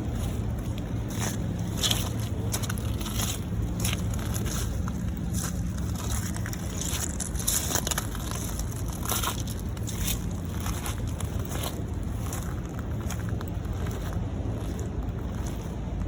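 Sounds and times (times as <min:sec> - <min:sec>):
footsteps crunching on rough ground: 0:00.0 - 0:16.0
river waves rushing: 0:00.0 - 0:16.0.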